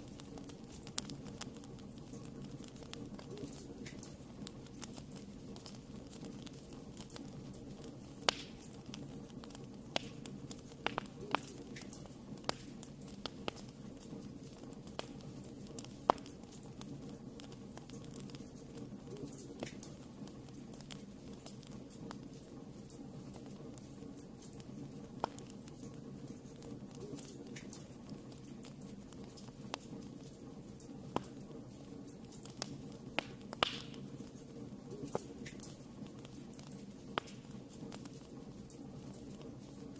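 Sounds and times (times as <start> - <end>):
fire crackles and pops: 0.0 - 39.9
fire flames rumbling: 0.0 - 39.9.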